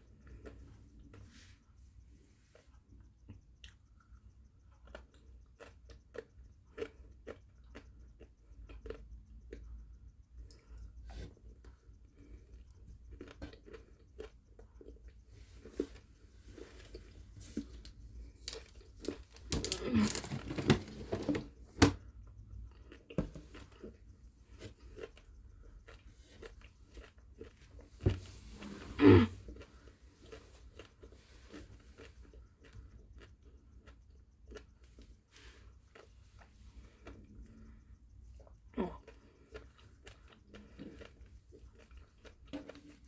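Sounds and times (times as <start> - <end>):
person chewing crunchy chocolate: 0.0 - 43.0.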